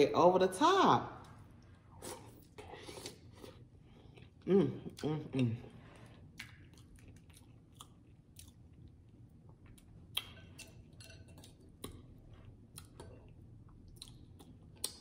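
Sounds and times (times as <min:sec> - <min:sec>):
person chewing with mouth clicks: 0:02.0 - 0:15.0.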